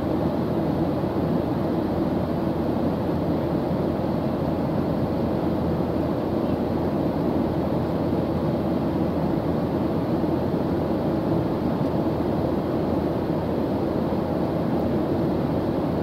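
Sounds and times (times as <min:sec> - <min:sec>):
airliner cabin drone: 0:00.0 - 0:16.0
faint constant hum: 0:00.0 - 0:16.0.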